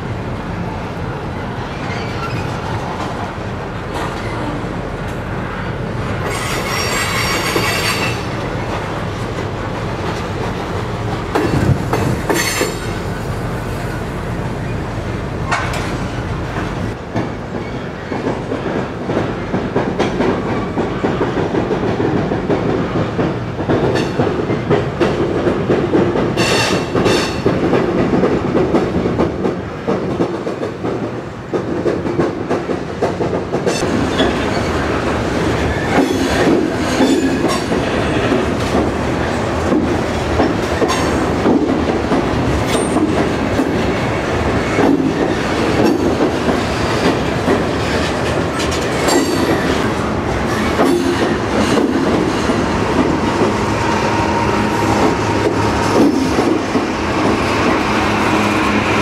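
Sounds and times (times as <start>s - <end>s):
freight train rumble and rattle: 0.0s - 59.0s
wheels clacking over rail joints: 6.2s - 13.2s, 15.4s - 59.0s.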